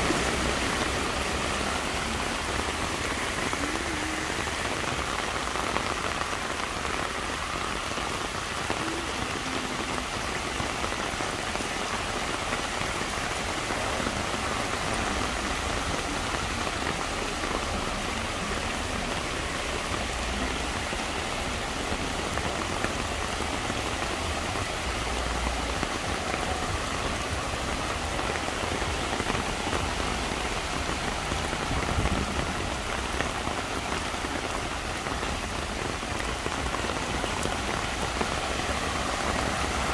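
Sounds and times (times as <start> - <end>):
heavy rain pouring on road: 0.0 - 39.9.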